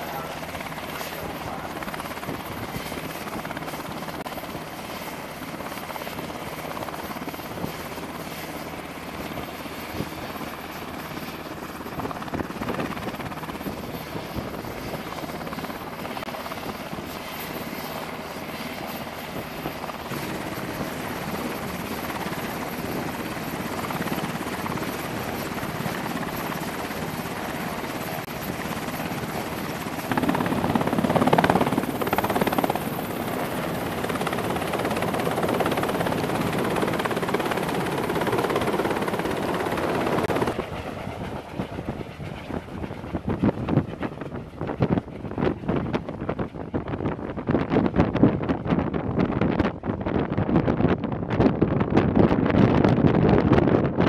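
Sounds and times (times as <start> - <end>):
turbine engine whine: 0.0 - 49.4
helicopter rotor chop: 0.0 - 54.0.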